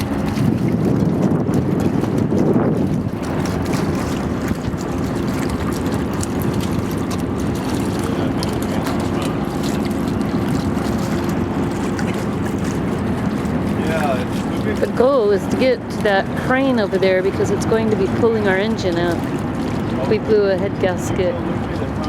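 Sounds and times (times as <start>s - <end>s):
boat engine running: 0.0s - 22.0s
wind buffeting microphone: 0.0s - 22.0s.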